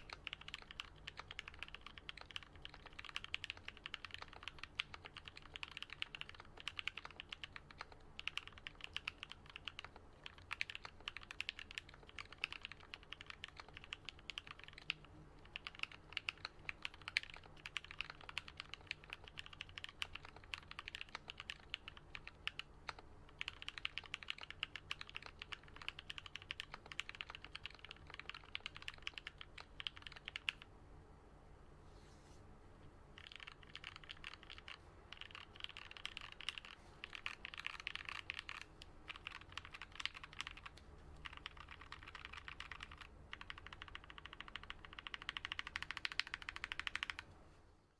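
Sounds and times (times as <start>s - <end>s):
fast mechanical keyboard typing: 0.0s - 30.7s, 33.2s - 47.3s.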